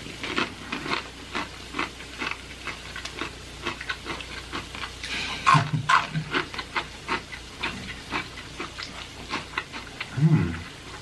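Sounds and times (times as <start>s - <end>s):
chewing and crunching chips: 0.0s - 11.0s.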